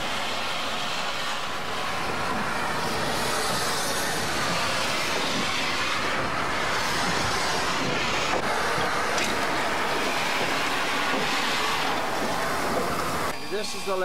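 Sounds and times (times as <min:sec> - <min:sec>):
hiss of steam: 0:00.0 - 0:14.0.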